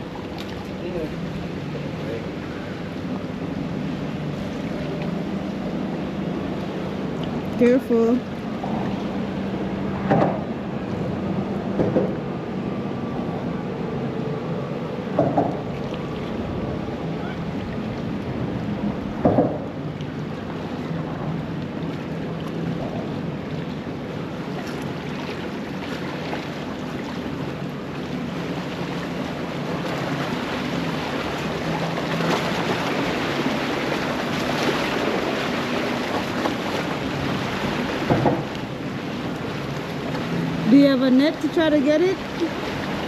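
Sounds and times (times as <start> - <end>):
surf noise: 0.0 - 43.0.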